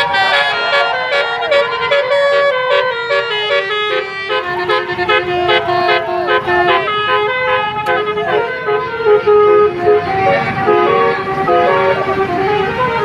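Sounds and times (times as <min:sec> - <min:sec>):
multi-tone horn playing a tune: 0:00.0 - 0:13.0.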